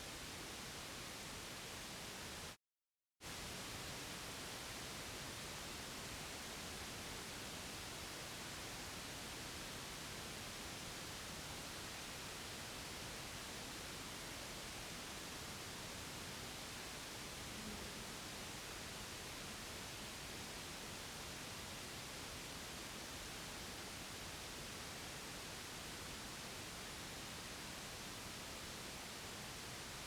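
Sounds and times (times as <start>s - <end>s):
steady white noise hiss: 0.0s - 2.6s, 3.2s - 30.0s.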